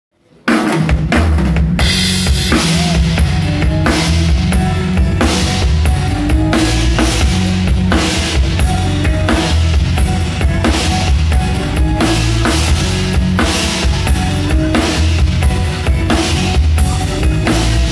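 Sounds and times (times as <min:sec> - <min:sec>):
drum kit steady beat: 0:00.5 - 0:17.9.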